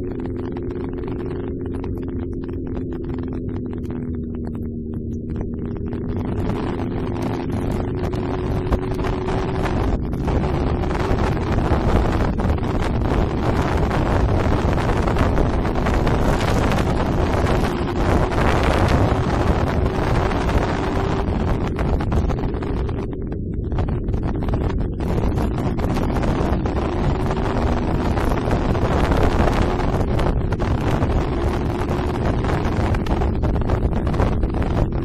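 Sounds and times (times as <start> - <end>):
motorcycle engine running: 0.0 - 35.0
wind buffeting microphone: 0.0 - 35.0.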